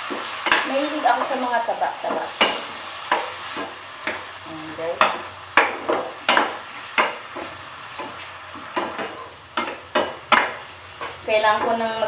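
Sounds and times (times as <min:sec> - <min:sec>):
pork sizzling in oil: 0:00.0 - 0:12.0.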